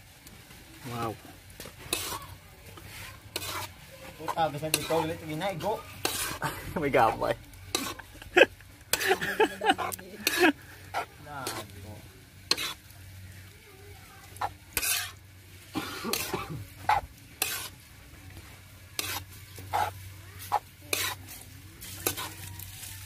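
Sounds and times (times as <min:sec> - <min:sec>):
noodles sizzling: 0:00.0 - 0:23.0
metal spatula scraping a wok: 0:00.8 - 0:13.4, 0:14.2 - 0:23.0.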